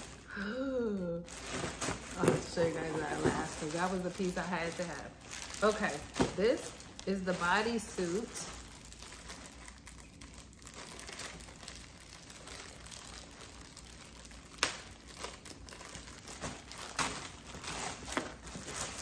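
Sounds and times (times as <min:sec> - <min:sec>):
plastic bag crinkling: 0:00.0 - 0:00.4, 0:01.1 - 0:19.0.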